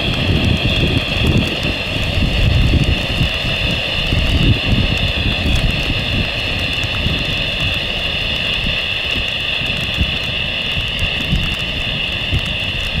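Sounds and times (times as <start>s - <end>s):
jet engine rumble: 0.0s - 13.0s
wind gusts on microphone: 0.0s - 13.0s.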